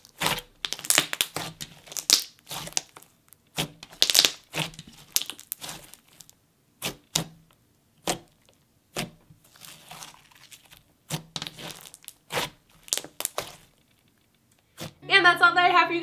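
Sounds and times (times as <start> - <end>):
hands kneading slime: 0.0 - 15.0.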